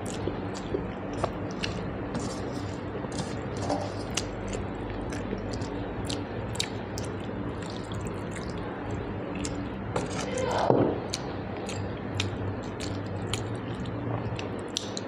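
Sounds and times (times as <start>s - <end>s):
person chewing with wet mouth smacks: 0.0s - 8.6s, 9.3s - 10.3s, 11.1s - 15.0s.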